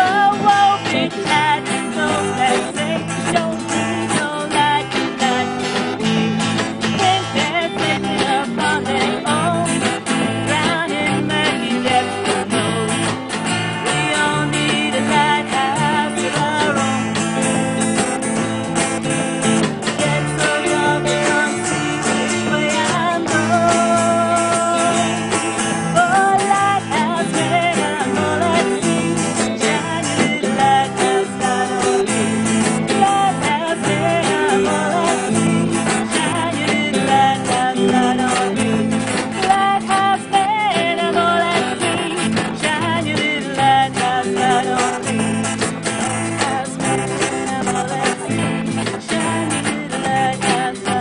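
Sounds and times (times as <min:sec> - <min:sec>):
bass: 0:00.0 - 0:51.0
drums: 0:00.0 - 0:51.0
guitar: 0:00.0 - 0:51.0.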